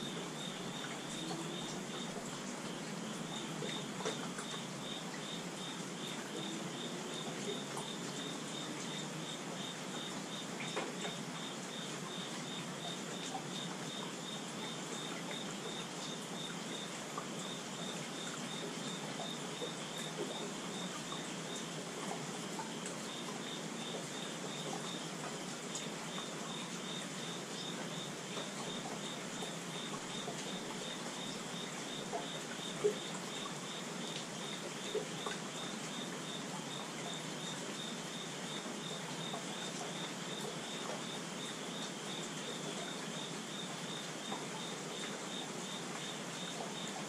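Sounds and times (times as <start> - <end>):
insect chirping: 0.0 - 47.0
rainfall hiss: 0.0 - 47.0.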